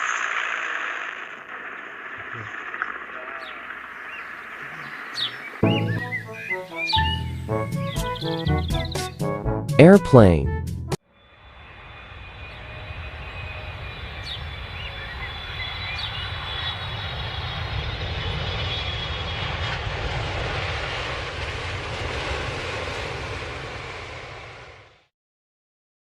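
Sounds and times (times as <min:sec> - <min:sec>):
airplane flying over: 0:00.0 - 0:09.1, 0:11.1 - 0:25.1.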